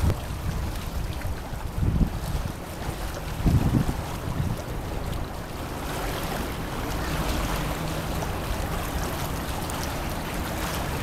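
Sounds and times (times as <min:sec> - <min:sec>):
river water lapping: 0:00.0 - 0:11.0.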